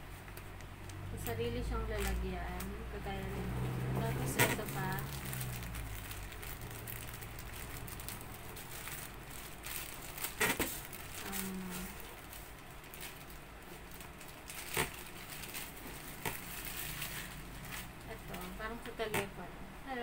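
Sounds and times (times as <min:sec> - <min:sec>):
plastic bag crinkling: 0:00.2 - 0:02.8, 0:04.1 - 0:19.3.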